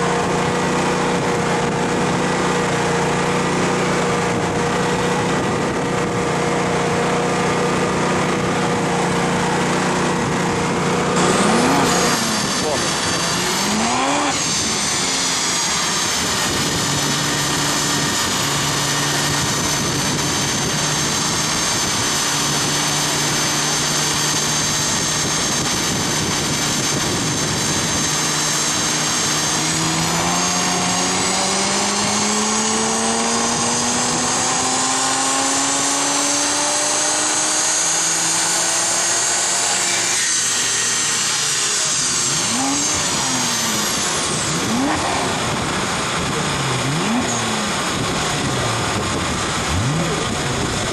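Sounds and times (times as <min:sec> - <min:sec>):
car engine revving on dyno: 0:00.0 - 0:50.9
high whine: 0:00.0 - 0:50.9.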